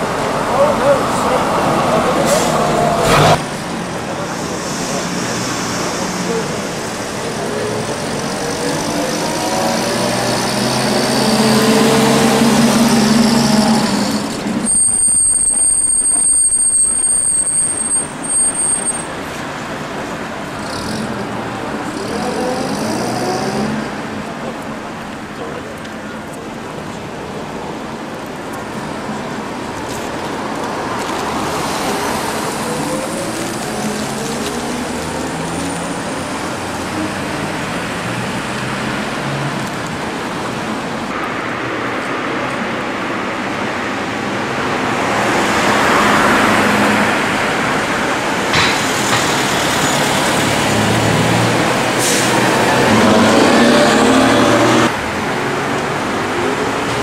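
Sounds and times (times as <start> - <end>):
bus engines running: 0.0 - 57.0
street traffic: 0.0 - 57.0.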